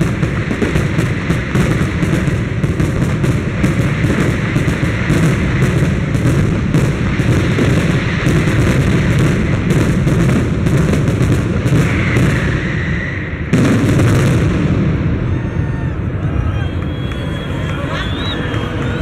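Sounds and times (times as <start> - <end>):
firework whistling: 0.0 - 19.0
fireworks bangs and crackling: 0.0 - 19.0
heavy rumble: 0.0 - 19.0.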